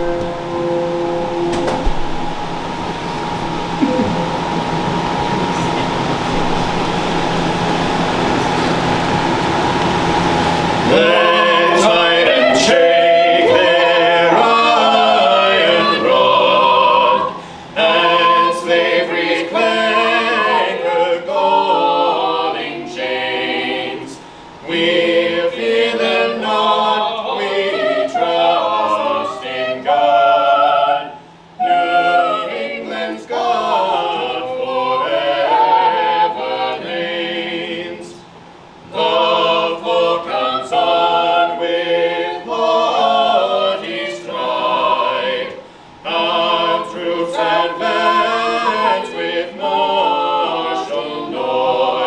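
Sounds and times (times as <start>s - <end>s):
choir singing: 0.0s - 52.0s.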